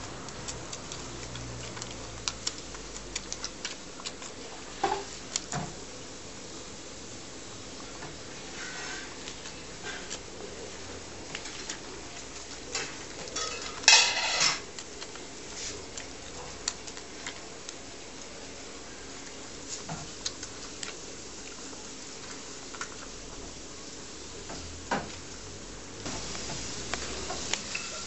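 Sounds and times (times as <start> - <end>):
puppies suckling: 0.0 - 13.8, 14.6 - 23.6.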